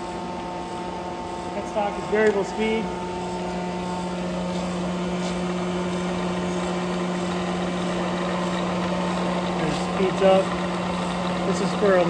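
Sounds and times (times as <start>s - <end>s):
cylindrical grinder humming and whirring: 0.0s - 12.0s.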